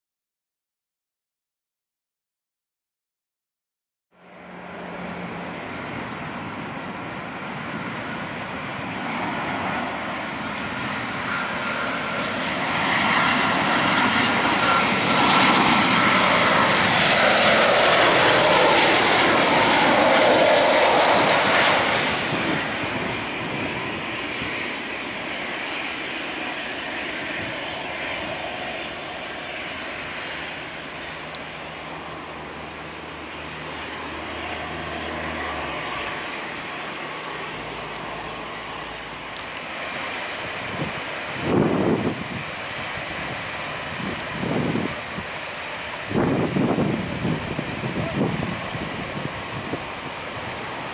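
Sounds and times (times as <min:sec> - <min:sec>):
high engine whine: 0:04.2 - 0:50.9
jet engine rumble and rush: 0:04.2 - 0:50.9.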